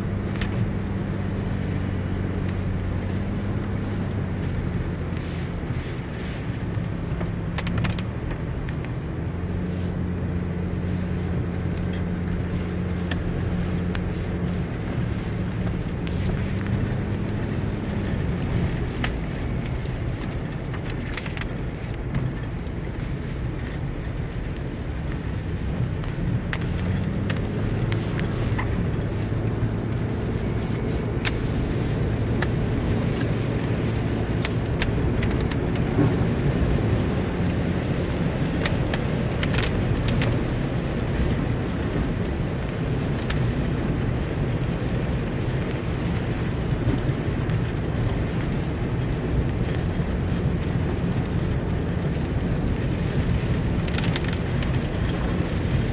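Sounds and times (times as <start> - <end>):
car engine running: 0.0 - 55.9
light ticks: 0.0 - 55.9
road noise: 0.0 - 55.9.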